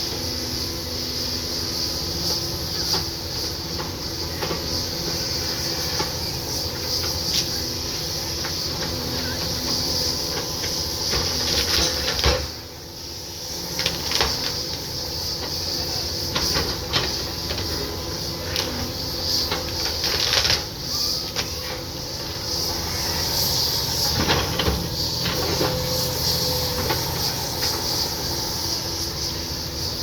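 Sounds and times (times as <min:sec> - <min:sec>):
diesel engine running: 0:00.0 - 0:30.0
high hiss: 0:00.0 - 0:30.0.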